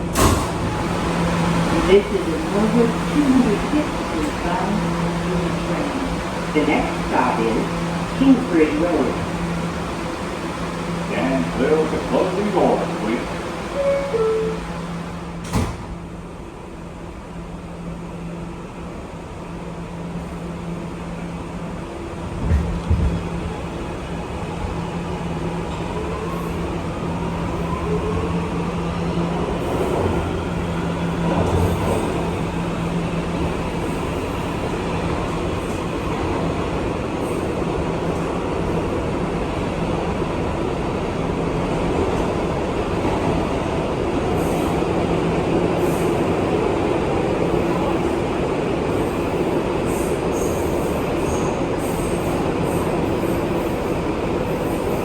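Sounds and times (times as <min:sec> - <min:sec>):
subway train propulsion whine: 0:00.0 - 0:55.0.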